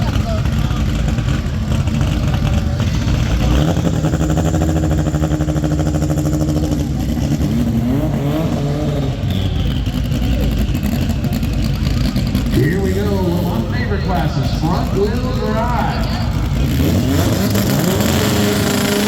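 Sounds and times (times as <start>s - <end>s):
drag race car engine revving: 0.0s - 19.0s
engine noise from track: 0.0s - 19.0s.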